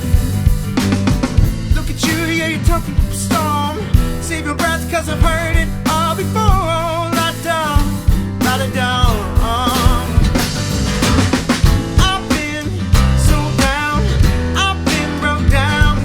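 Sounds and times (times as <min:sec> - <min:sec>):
bass guitar: 0:00.0 - 0:16.0
drum kit: 0:00.0 - 0:16.0
guitar: 0:00.0 - 0:16.0.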